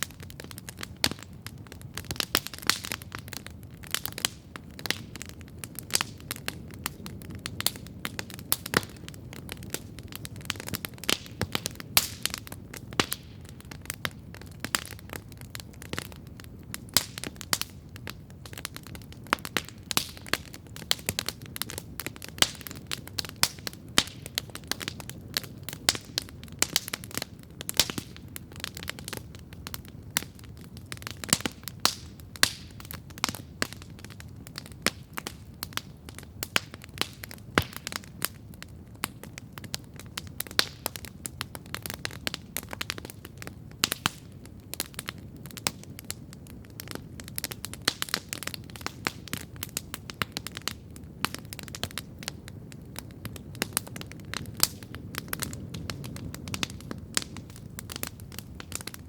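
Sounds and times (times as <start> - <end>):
campfire crackling and popping: 0.0 - 59.0
low roar of flames: 0.0 - 59.0.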